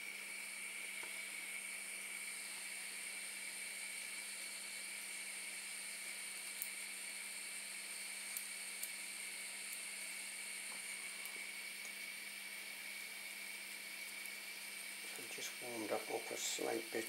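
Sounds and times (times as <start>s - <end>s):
ventilator fan whirring: 0.0s - 17.0s.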